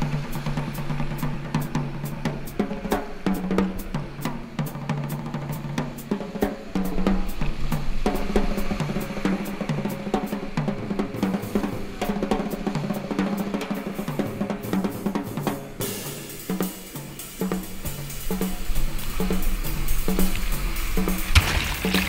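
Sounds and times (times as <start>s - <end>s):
bright steady hiss: 0.0s - 22.0s
drum-driven backing music: 0.0s - 22.0s.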